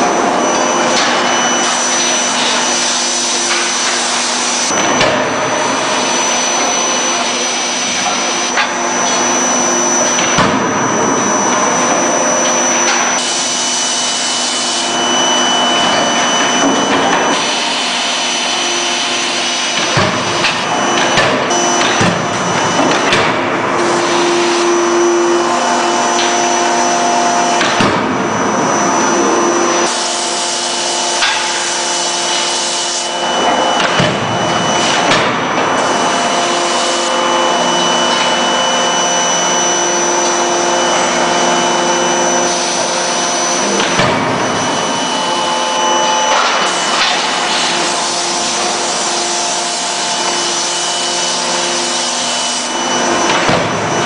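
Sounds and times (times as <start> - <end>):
forge machinery hissing and humming: 0.0 - 54.0.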